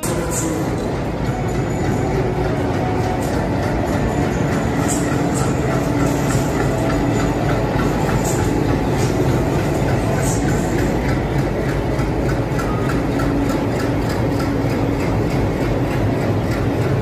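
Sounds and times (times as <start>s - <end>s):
diesel locomotive engines: 0.0s - 17.0s
train wheels clicking over rail joints: 0.0s - 17.0s.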